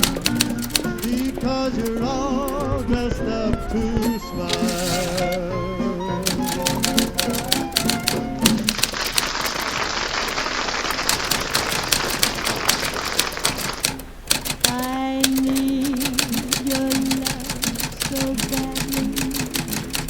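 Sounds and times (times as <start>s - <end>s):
typewriter keys clacking: 0.0s - 2.5s, 4.0s - 5.4s, 6.2s - 20.0s
old radio broadcast music: 0.0s - 20.0s.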